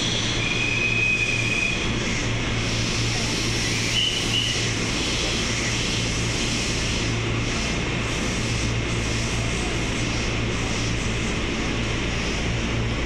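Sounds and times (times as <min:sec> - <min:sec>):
train equipment droning: 0:00.0 - 0:13.0.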